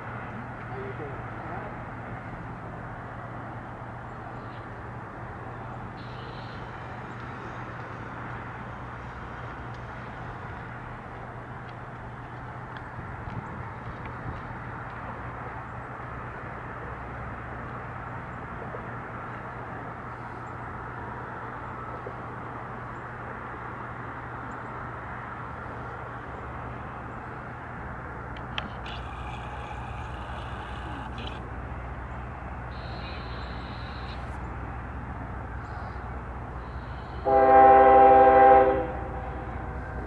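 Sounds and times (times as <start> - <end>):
distant locomotive engine drone: 0.0 - 40.0.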